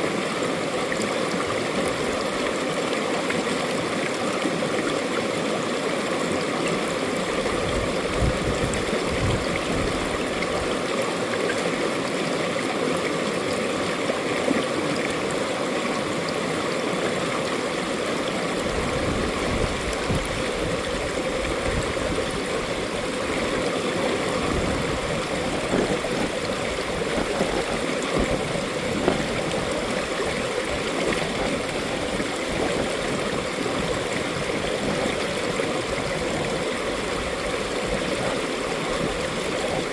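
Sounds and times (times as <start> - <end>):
stream water gurgling over rocks: 0.0 - 39.9.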